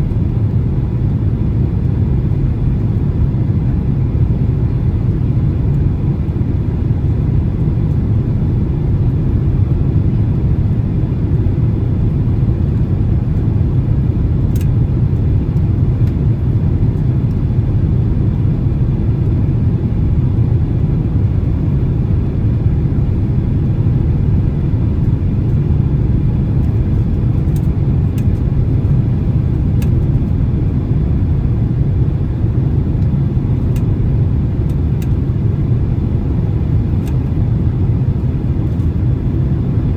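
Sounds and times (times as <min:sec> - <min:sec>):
airplane cabin roar: 0:00.0 - 0:39.9.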